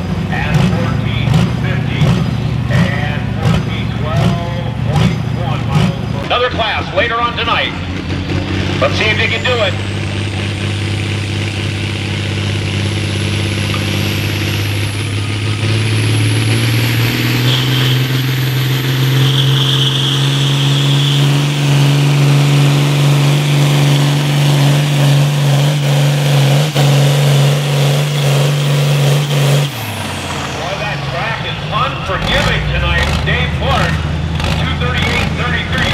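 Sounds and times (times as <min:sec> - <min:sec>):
diesel tractor engine under load: 0:00.0 - 0:35.9.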